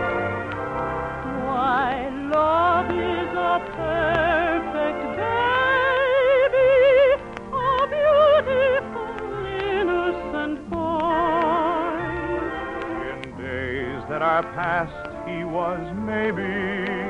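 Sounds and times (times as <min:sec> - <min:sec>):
orchestra accompanying: 0:00.0 - 0:17.0
singer with wide vibrato: 0:01.2 - 0:17.0.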